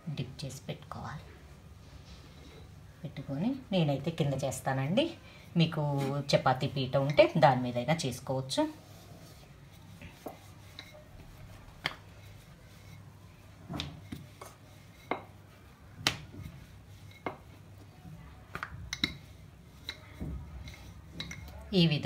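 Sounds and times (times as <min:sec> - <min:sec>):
rolling pin rolling dough: 0:02.3 - 0:22.0.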